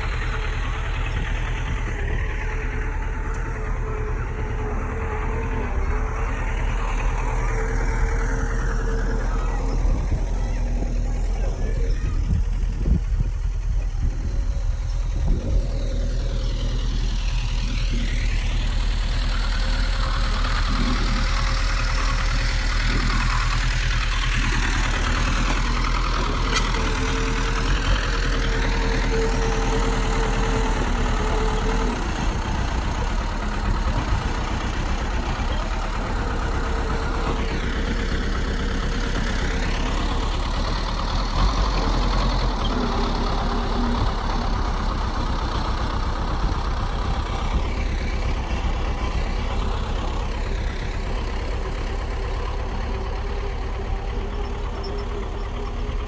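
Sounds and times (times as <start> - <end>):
bulldozer diesel engine running: 0.0 - 56.0
high engine whine: 0.0 - 56.0.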